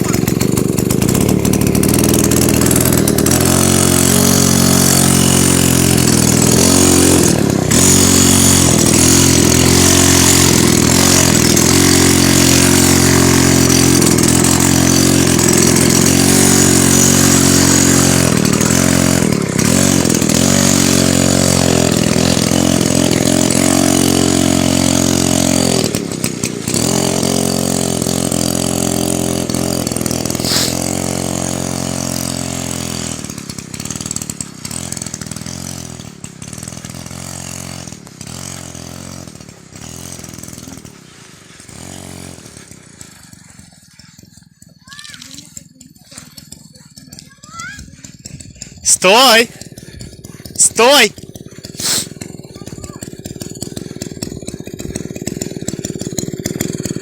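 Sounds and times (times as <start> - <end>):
two-stroke engine running loud: 0.0 - 57.0.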